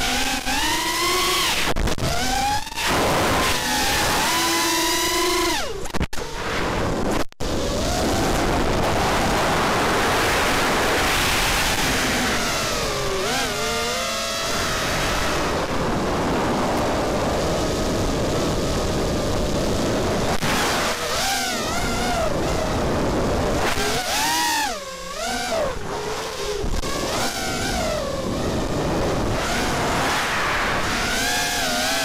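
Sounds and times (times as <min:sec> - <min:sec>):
drone motor whine: 0:00.0 - 0:32.0.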